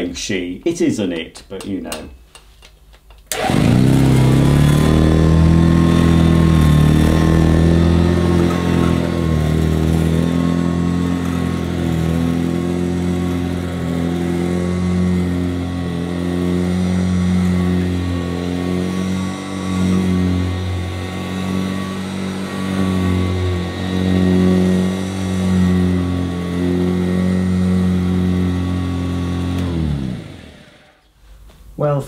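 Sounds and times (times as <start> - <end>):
vacuum cleaner motor hum: 3.3 - 31.1.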